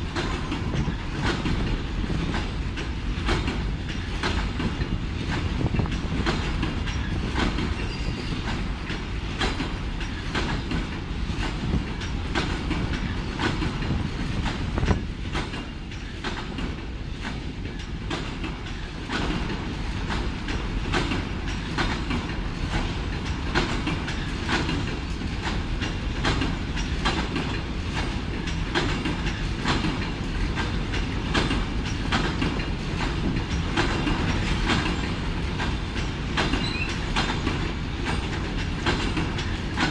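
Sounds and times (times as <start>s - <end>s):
train wheels rumbling: 0.0s - 39.9s
wheels clicking over rail joints: 0.0s - 39.9s.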